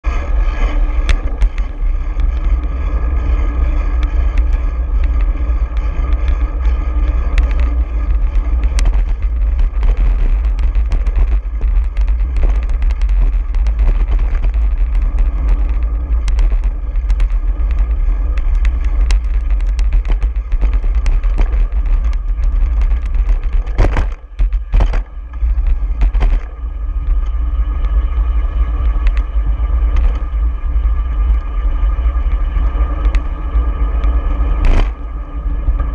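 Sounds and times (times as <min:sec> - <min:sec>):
wind rushing over microphone: 0:00.0 - 0:35.9.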